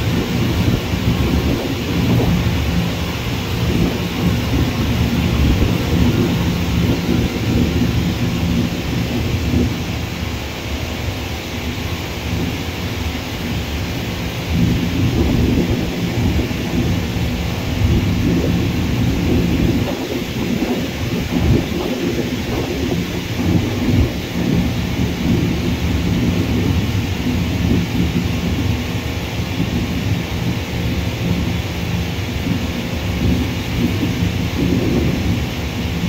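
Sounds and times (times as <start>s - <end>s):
distant jet engines rumbling: 0.0s - 36.0s.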